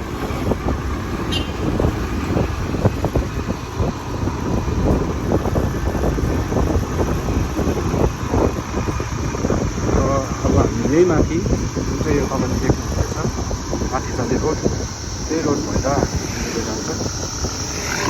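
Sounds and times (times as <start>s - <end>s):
motorbike engine and road noise: 0.0s - 18.0s
wind buffeting microphone: 0.0s - 18.0s.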